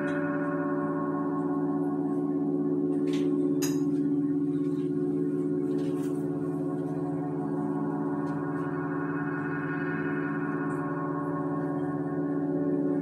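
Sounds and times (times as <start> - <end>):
ambient bell-like drone music: 0.0 - 13.0.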